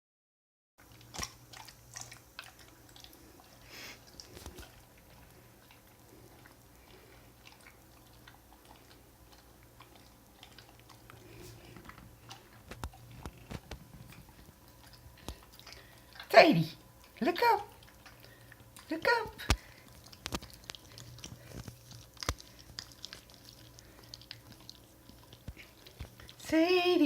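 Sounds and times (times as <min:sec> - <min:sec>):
dog chewing and licking: 0:00.8 - 0:27.0
faint low hum: 0:00.8 - 0:27.0.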